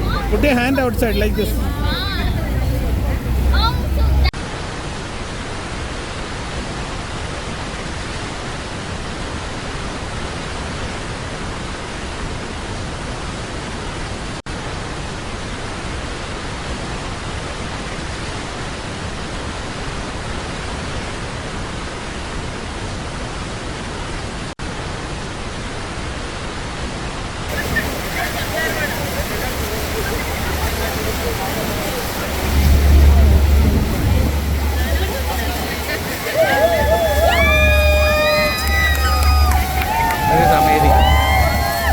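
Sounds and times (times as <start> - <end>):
waterfall roaring: 0.0 - 24.5, 27.5 - 41.9.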